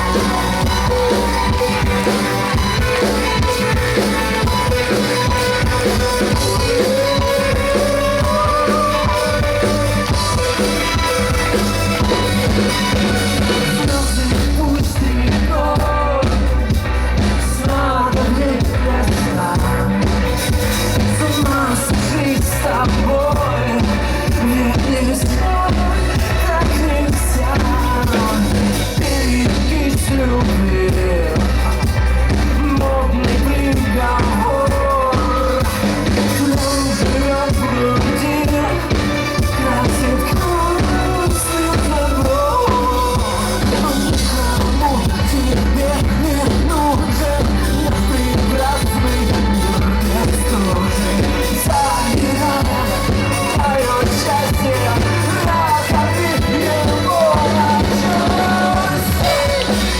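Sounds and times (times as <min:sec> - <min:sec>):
lead singer singing: 0:00.0 - 0:59.9
live band playing: 0:00.0 - 0:59.9.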